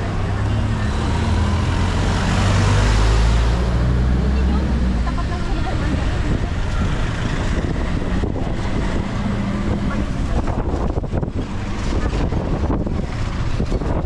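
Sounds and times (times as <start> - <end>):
low engine rumble: 0.0 - 14.0
wind buffeting microphone: 1.2 - 14.0.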